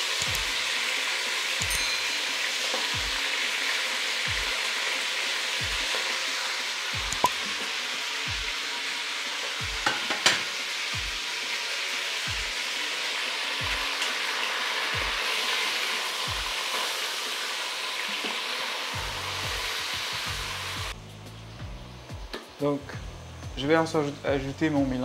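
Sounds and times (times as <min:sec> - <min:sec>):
food sizzling in hot oil: 0:00.0 - 0:21.2.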